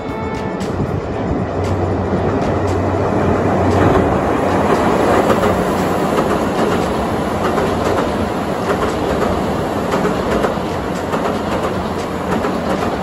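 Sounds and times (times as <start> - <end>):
train crossing steel bridge: 0.0 - 13.0
train wheels clacking over rail joints: 0.2 - 13.0.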